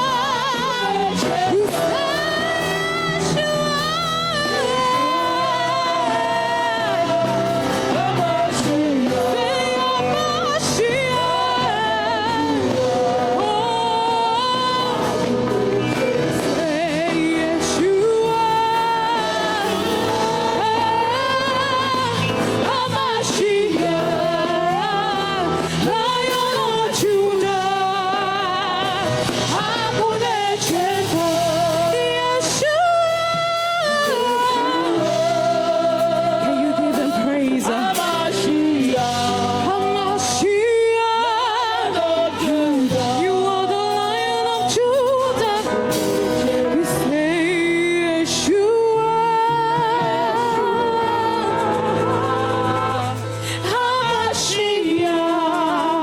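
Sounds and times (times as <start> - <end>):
keyboard and band accompaniment: 0.0 - 56.0
person singing with vibrato: 0.0 - 56.0.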